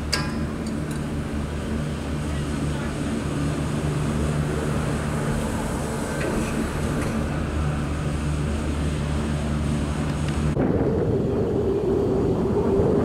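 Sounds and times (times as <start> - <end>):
gondola lift machinery humming: 0.0 - 13.0.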